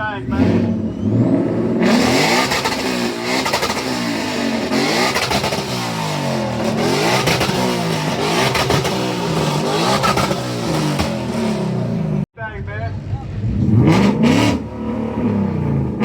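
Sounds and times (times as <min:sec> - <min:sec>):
car engine revving: 0:00.0 - 0:12.3, 0:12.9 - 0:16.0.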